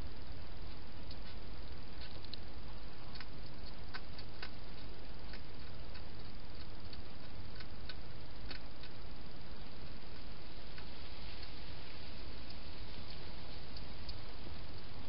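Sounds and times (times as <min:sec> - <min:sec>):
hedgehog feeding clicks: 0:00.0 - 0:15.0
steady low hiss: 0:00.0 - 0:15.0.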